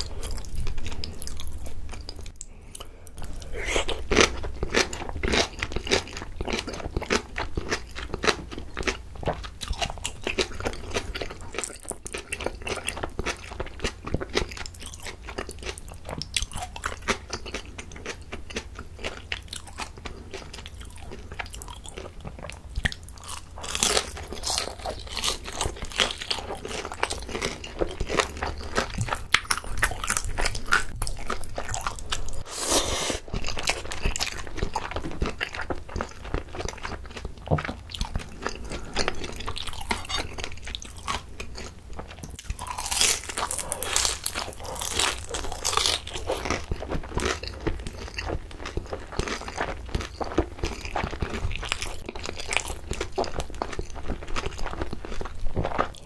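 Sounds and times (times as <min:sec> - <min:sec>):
crunching and chewing dumplings: 0:00.0 - 0:56.0.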